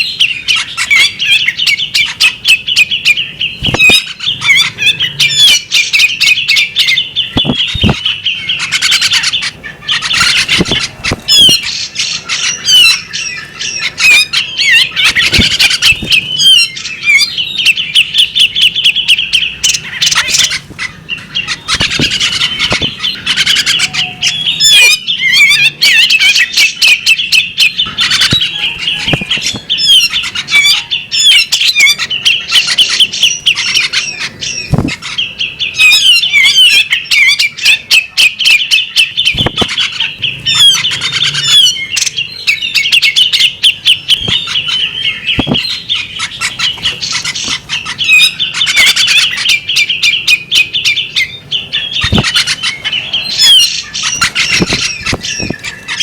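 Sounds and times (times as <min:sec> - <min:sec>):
bird chirping and squawking: 0:00.0 - 0:56.0.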